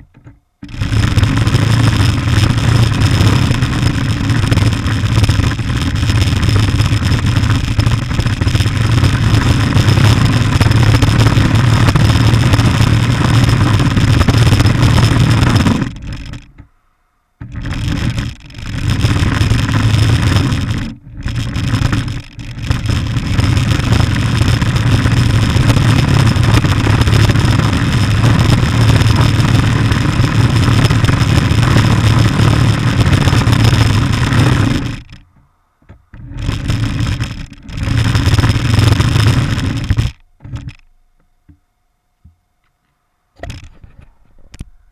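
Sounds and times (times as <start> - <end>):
radio-controlled car running: 0.6 - 16.5, 17.4 - 35.2, 36.2 - 40.9.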